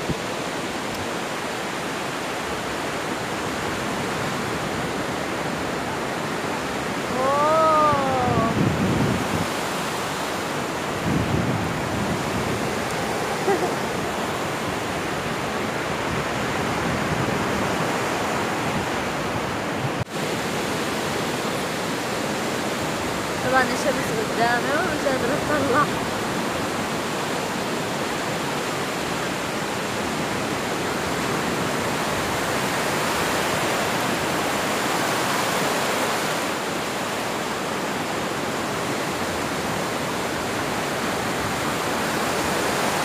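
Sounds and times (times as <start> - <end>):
waves breaking on shore: 0.0 - 43.0.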